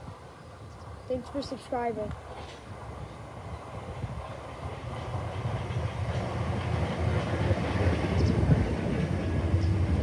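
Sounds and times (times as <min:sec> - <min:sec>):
train wheels rumbling on rails: 0:01.2 - 0:10.0.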